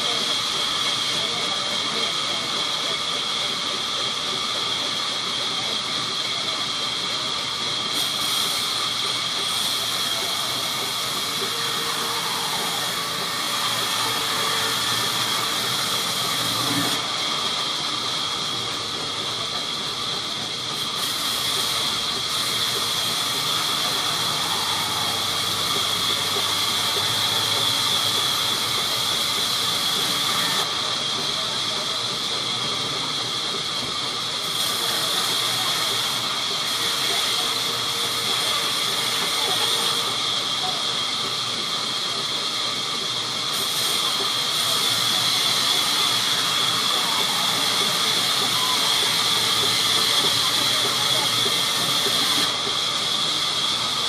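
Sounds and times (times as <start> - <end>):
band saw whining through wood: 0.0 - 54.0.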